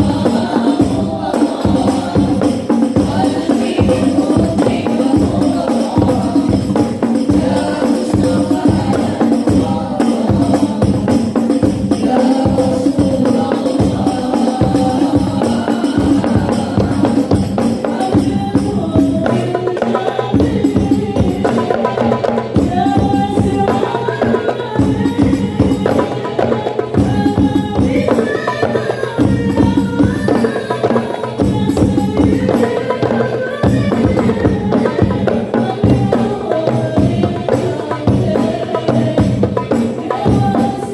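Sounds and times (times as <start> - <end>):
frame drums with jingles: 0.0 - 40.9
group singing: 0.0 - 40.9.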